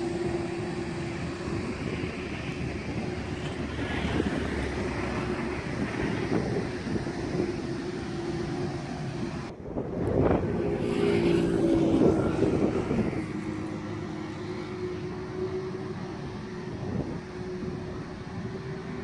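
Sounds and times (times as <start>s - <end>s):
jet engines whining: 0.0s - 19.0s
loud rushing noise: 0.0s - 19.0s.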